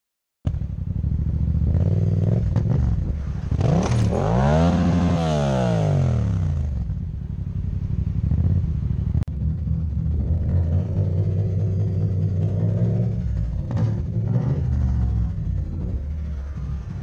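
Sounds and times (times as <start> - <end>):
motorcycle engine revving: 0.5 - 17.0.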